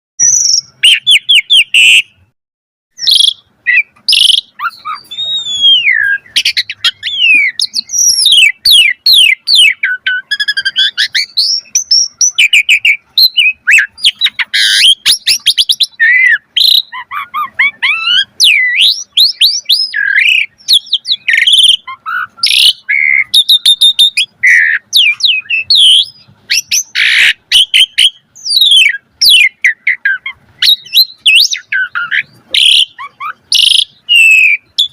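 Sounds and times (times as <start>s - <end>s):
starling singing: 0.2s - 2.3s, 3.0s - 34.9s.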